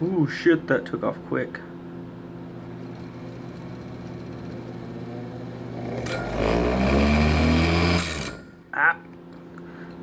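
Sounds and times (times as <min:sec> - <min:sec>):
motor humming and whining: 0:01.8 - 0:10.0.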